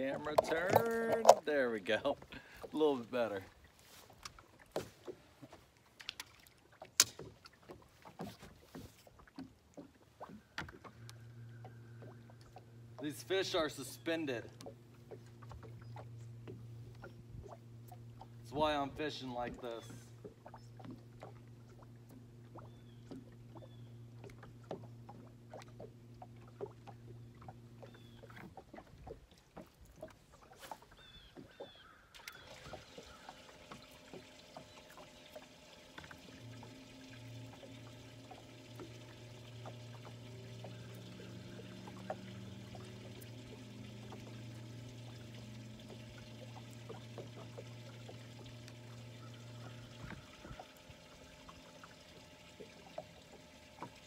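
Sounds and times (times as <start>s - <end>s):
electric trolling motor humming: 0.0s - 3.4s, 9.1s - 54.0s
water lapping against boat hull: 0.0s - 54.0s.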